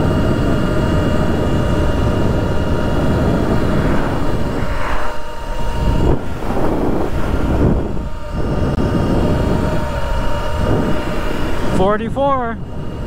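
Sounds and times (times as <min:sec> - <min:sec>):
electric motor whine: 0:00.0 - 0:13.0
heavy wind: 0:00.0 - 0:13.0
road rumble: 0:00.0 - 0:13.0.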